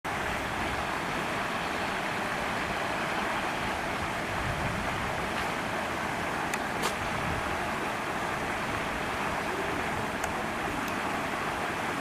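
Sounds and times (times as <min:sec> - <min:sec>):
steady rushing noise: 0:00.1 - 0:12.0.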